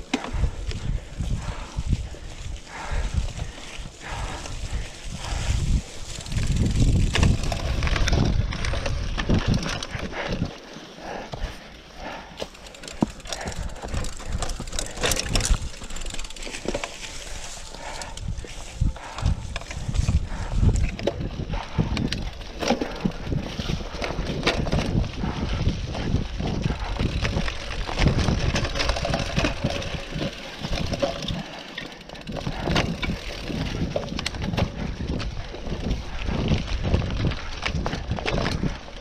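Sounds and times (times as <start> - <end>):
bike rattling and knocking: 0.0 - 39.0
bike tyres rolling through leaves: 0.0 - 39.0.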